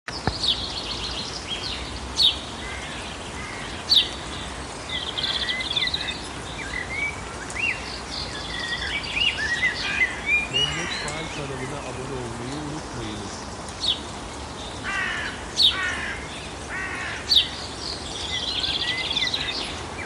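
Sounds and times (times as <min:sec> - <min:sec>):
songbirds chirping and trilling: 0:00.1 - 0:20.0
steady outdoor hiss: 0:00.1 - 0:20.0.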